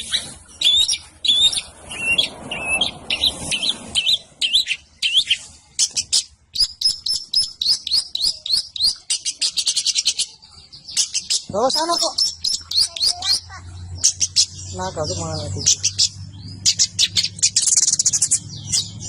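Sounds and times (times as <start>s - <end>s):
bird singing chirps and whistles: 0.0s - 19.0s.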